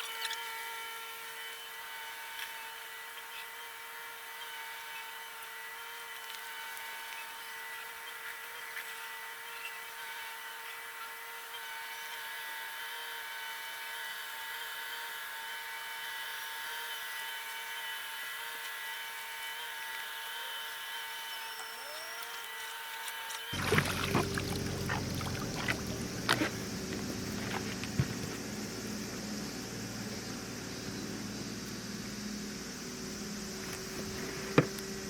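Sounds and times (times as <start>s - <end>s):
small electric motor whining: 0.0s - 35.0s.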